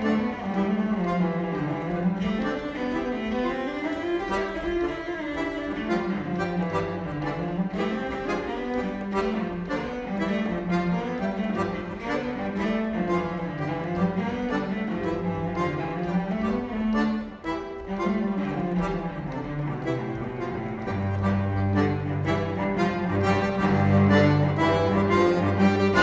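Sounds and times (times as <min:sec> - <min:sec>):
bowed cello: 0:00.0 - 0:26.0
chamber quartet playing: 0:00.0 - 0:26.0.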